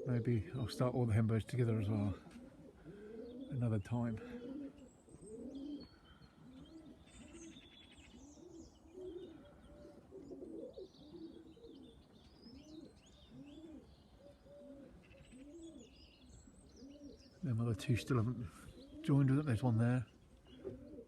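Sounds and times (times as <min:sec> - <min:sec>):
pigeons cooing: 0:00.0 - 0:21.0
small birds chirping: 0:00.0 - 0:21.0.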